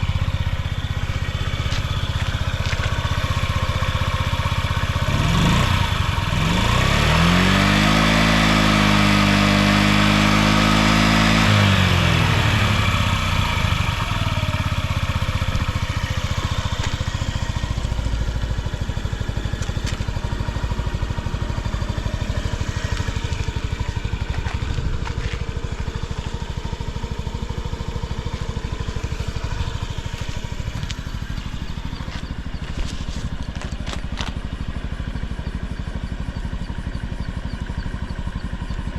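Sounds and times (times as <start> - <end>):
scooter engine revving and idling: 0.0 - 38.9.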